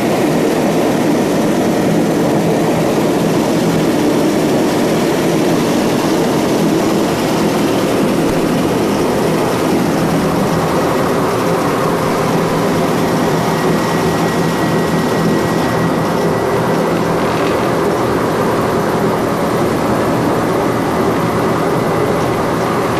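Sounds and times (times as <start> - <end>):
gas turbines droning: 0.0 - 22.9.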